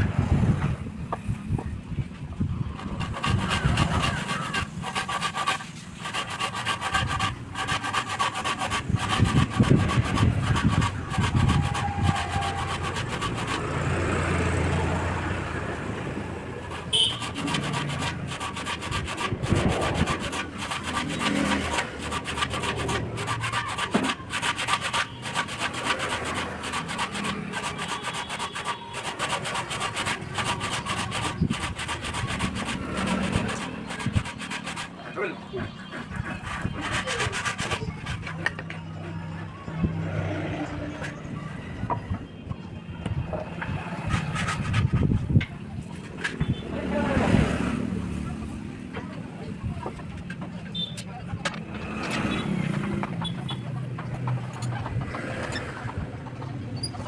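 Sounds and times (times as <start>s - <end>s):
wood rubbing and scraping on wood: 0.5s - 57.0s.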